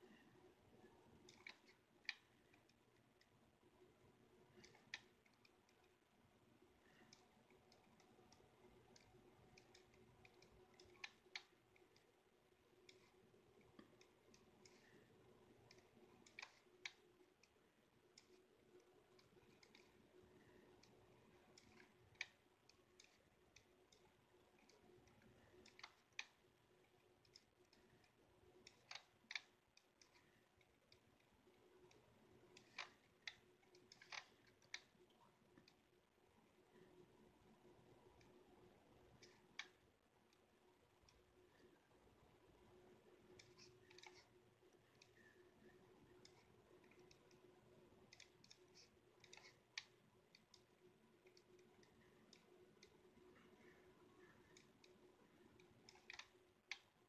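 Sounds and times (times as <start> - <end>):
faint steady hum: 0.0 - 57.0
computer mouse clicks: 0.8 - 57.0.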